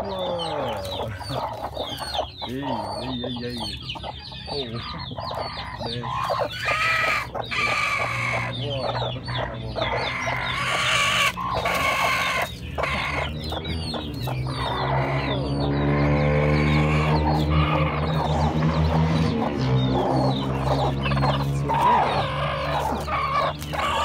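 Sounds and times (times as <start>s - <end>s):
chicks peeping: 0.0s - 24.0s
hen clucking and squawking: 0.0s - 24.0s.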